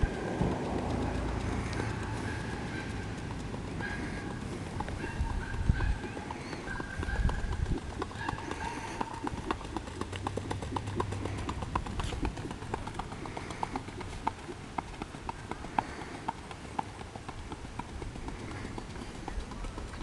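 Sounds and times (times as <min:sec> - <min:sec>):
pony hoofbeats on dirt: 0:00.0 - 0:20.0.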